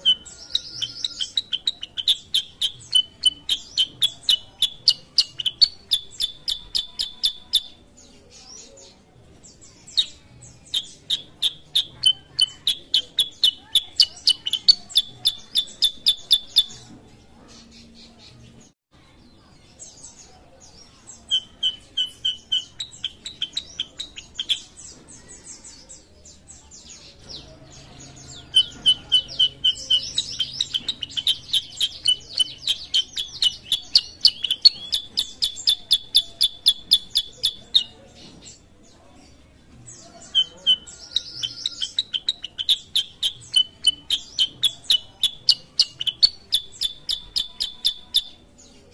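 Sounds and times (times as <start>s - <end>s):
bird singing rapid high chirps: 0.0s - 16.9s, 19.9s - 38.6s, 39.9s - 48.9s.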